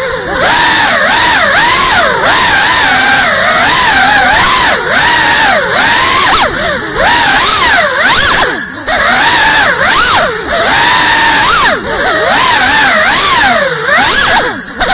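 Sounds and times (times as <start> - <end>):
drone motors whining: 0.0 - 14.9.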